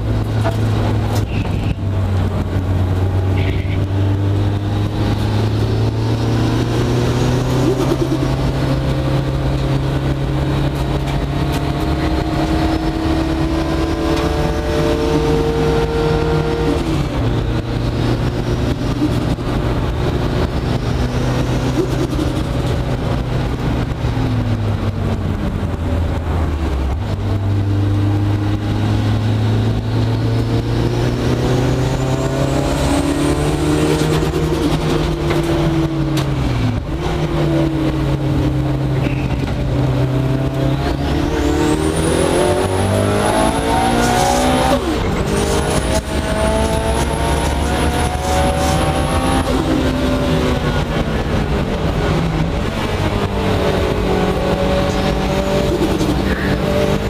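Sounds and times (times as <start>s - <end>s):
turbocharged car engine revving: 0.0s - 57.0s.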